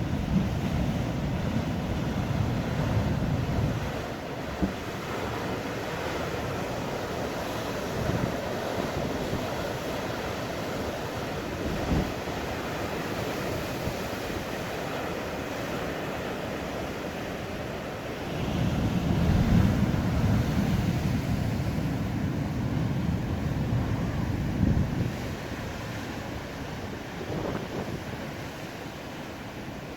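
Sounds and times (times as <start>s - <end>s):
wind buffeting microphone: 0.0s - 14.6s, 18.4s - 28.9s
rough sea waves breaking: 0.0s - 29.9s.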